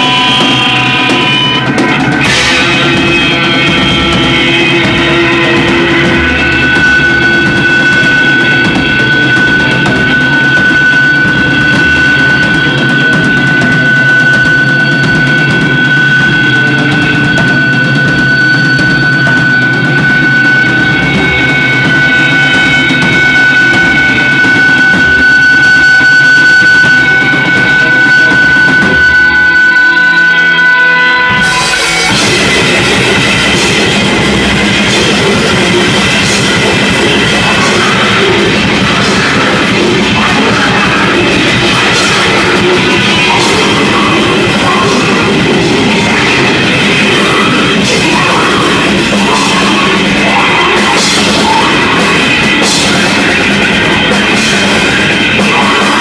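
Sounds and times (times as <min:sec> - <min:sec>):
fast dense drumming: 0:00.0 - 0:29.8, 0:31.3 - 0:56.0
distorted guitars: 0:00.0 - 0:56.0.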